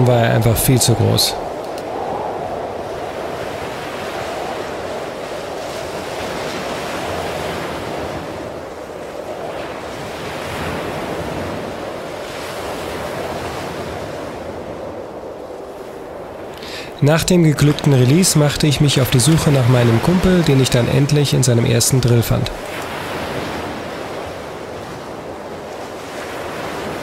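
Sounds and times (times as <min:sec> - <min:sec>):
surf washing onto a beach: 0:00.0 - 0:27.0
wind on microphone: 0:00.0 - 0:27.0.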